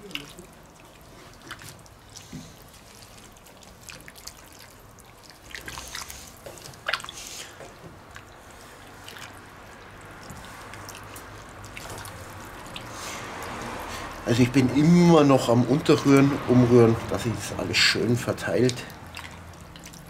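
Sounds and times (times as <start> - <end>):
liquid squelching and dripping: 0.0 - 20.0
wooden spoon stirring thick stew: 0.0 - 20.0.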